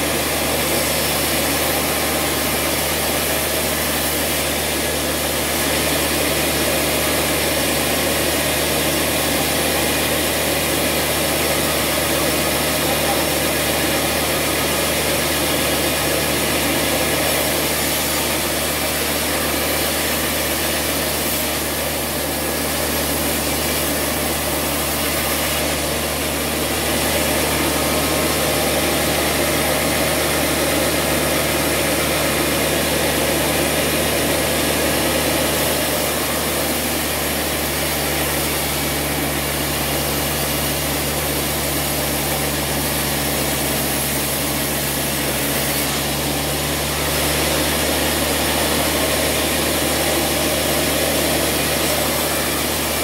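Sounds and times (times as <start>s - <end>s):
band saw cutting wood: 0.0s - 53.0s.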